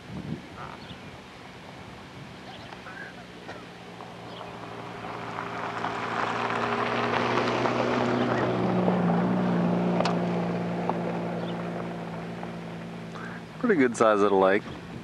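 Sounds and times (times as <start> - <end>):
engine passing by: 0.6 - 15.0.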